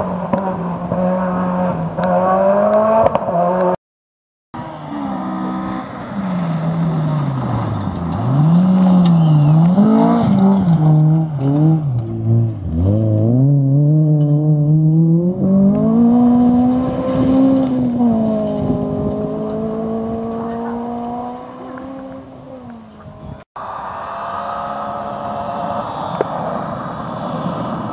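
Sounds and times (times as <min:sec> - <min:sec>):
rally car engine revving: 0:00.0 - 0:03.8, 0:04.6 - 0:23.0, 0:23.6 - 0:27.9.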